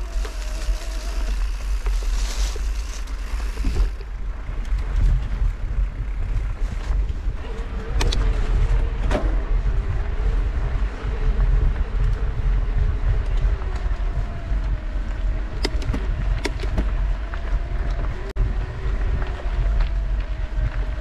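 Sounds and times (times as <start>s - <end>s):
bike tyres rolling over dirt: 0.0s - 21.0s
wind rushing over microphone: 0.0s - 21.0s.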